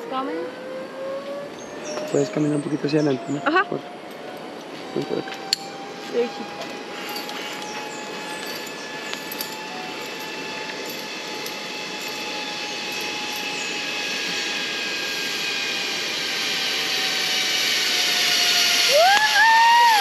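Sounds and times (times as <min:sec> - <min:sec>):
zipline trolley whirring on cable: 0:00.0 - 0:20.0.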